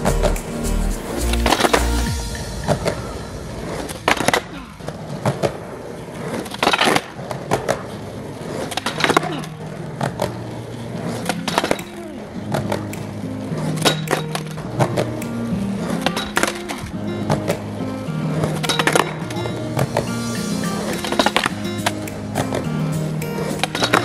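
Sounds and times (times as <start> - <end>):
skateboard wheels rolling on concrete: 0.0 - 24.0
skateboard clacks and slaps: 2.6 - 24.0.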